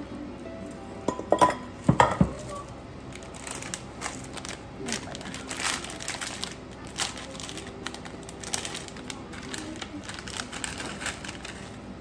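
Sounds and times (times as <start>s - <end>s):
plastic packet crinkling: 2.4s - 12.0s.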